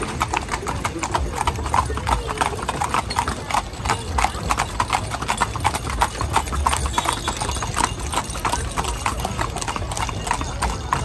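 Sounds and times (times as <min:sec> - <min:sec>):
horse hooves clip-clopping on pavement: 0:00.0 - 0:11.0.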